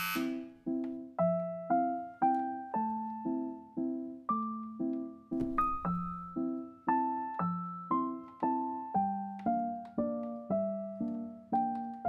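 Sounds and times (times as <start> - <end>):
slow piano notes and chords: 0.0 - 12.0.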